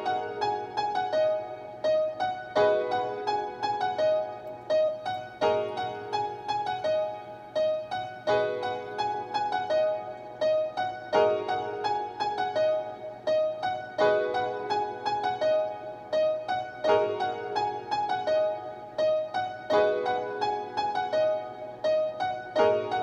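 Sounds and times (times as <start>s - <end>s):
piano-style keyboard melody: 0.0s - 23.0s.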